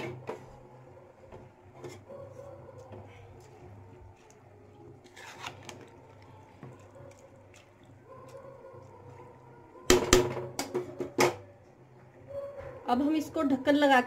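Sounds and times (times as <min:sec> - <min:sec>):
spoon stirring in boiling water: 0:00.0 - 0:12.3.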